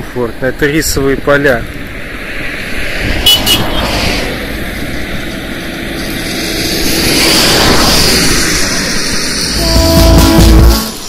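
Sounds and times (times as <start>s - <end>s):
moving vehicle running noise: 0.0s - 11.0s.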